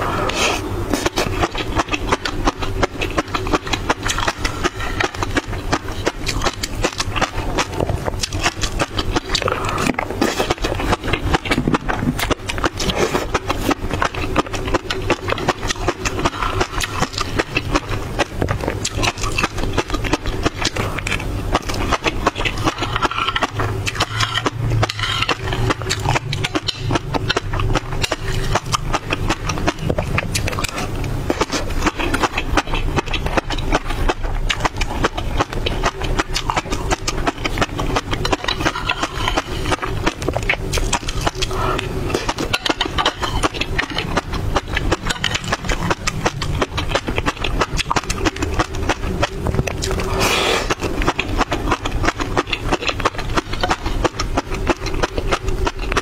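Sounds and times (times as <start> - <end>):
chewing with fish eggs popping: 0.0 - 56.0.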